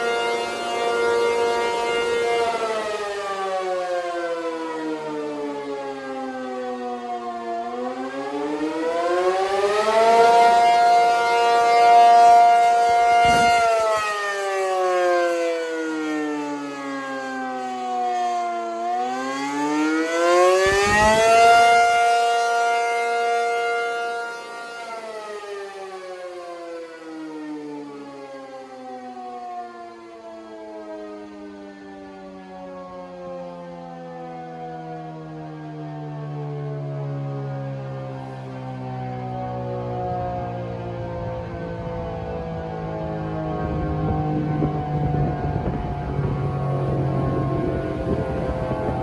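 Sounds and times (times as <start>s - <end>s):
outdoor warning siren wailing: 0.0s - 49.0s.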